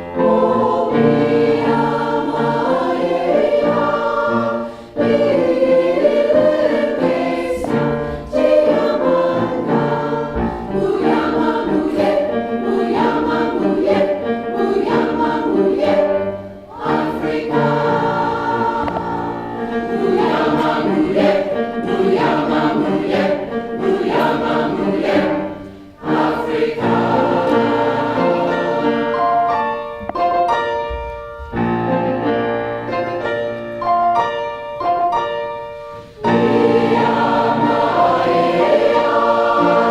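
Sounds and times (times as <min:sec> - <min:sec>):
mixed choir singing in harmony: 0:00.0 - 0:30.0, 0:36.0 - 0:39.9.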